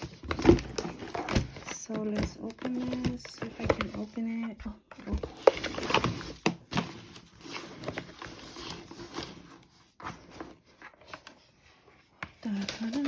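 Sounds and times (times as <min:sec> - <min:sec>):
box being opened by hand: 0:00.0 - 0:11.5.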